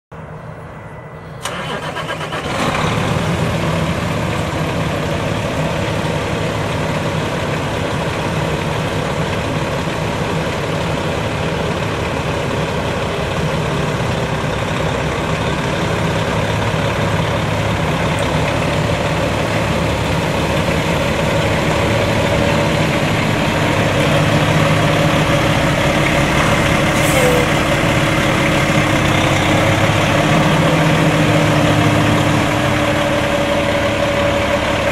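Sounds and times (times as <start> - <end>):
diesel truck engine starting and idling: 0.2 - 34.9.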